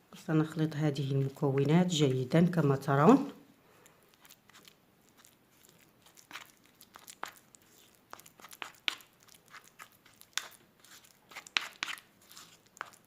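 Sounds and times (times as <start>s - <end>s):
spoon stirring thick paste in bowl: 0.1s - 3.3s, 3.9s - 13.0s.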